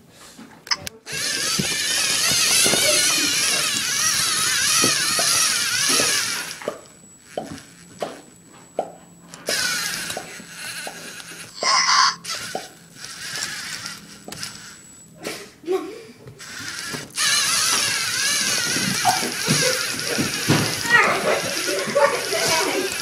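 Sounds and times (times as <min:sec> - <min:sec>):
robot motors whining: 0:00.8 - 0:08.4, 0:09.1 - 0:15.5, 0:16.3 - 0:23.0.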